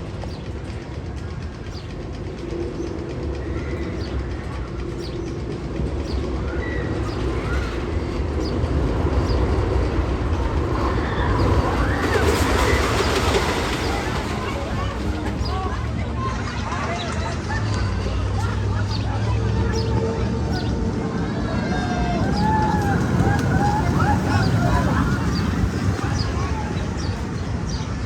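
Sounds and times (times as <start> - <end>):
roller coaster rumbling on track: 0.0 - 28.0.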